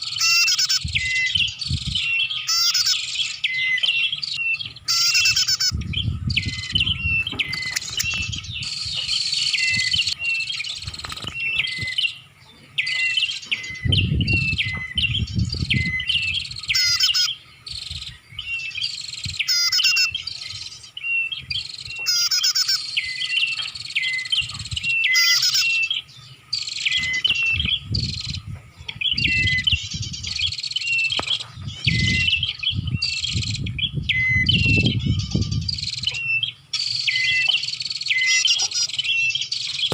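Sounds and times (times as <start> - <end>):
bird high chirping calls: 0.0 - 39.9.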